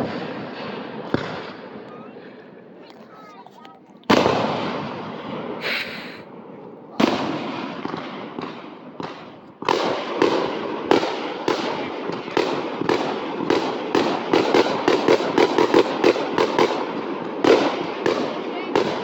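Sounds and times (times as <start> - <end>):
fireworks bangs: 0.0 - 3.4, 4.0 - 19.0.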